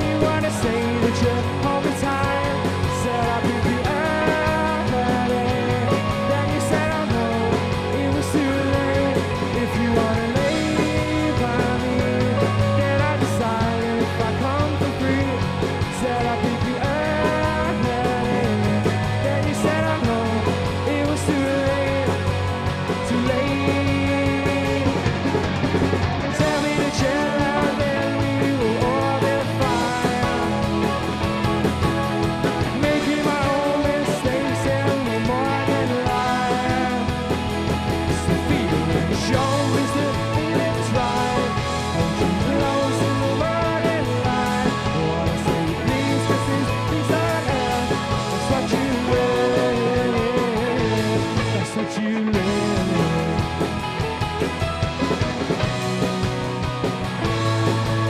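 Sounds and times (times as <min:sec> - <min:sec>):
bass: 0:00.0 - 0:58.0
drums with steady beat: 0:00.0 - 0:58.0
electric guitars: 0:00.0 - 0:58.0
rock band playing: 0:00.0 - 0:58.0.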